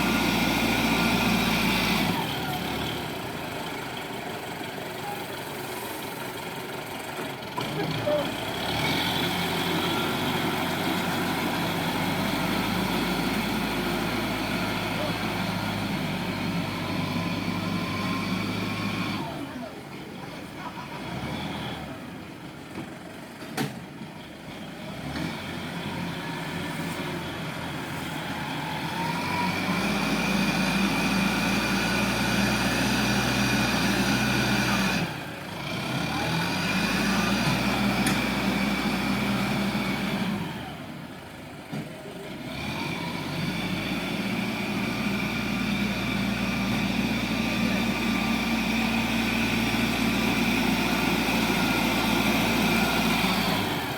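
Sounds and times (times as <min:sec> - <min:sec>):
heavy diesel engine revving: 0:00.0 - 0:04.6, 0:05.4 - 0:22.5, 0:24.3 - 0:53.9.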